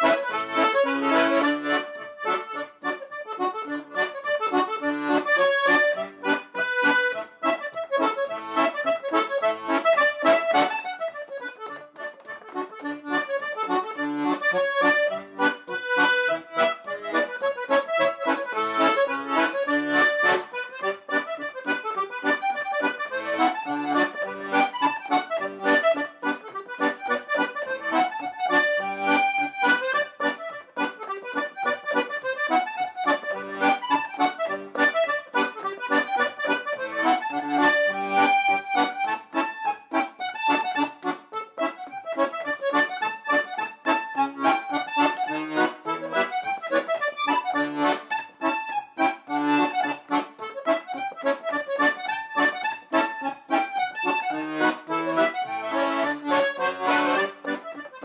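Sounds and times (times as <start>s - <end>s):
piano accordion playing: 0.0s - 58.0s.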